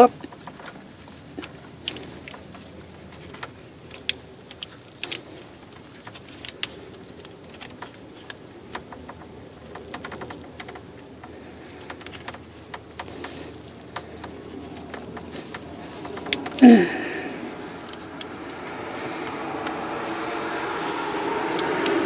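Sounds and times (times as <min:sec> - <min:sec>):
small parts clicking and tapping: 0:00.0 - 0:20.5.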